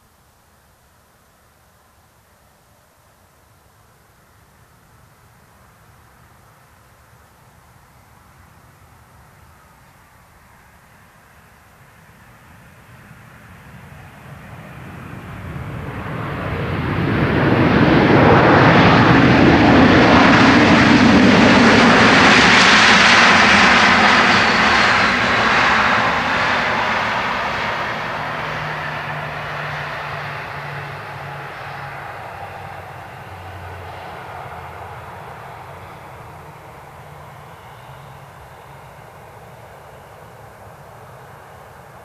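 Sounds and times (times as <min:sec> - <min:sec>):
jet engines on landing roll: 0:07.4 - 0:42.0.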